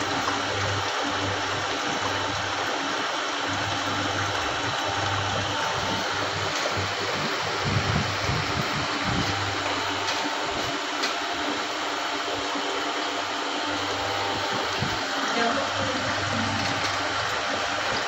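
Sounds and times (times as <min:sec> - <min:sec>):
oil press motor humming: 0:00.0 - 0:18.0.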